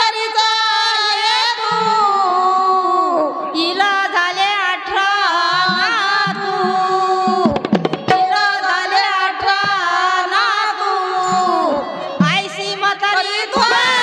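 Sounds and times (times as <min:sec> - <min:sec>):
woman singing devotional song: 0:00.0 - 0:14.0.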